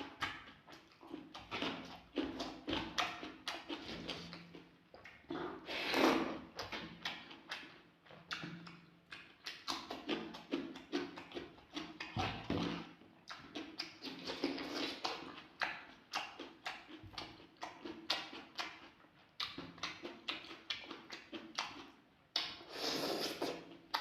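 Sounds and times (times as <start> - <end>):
chewing with mouth clicks: 0.0 - 24.0.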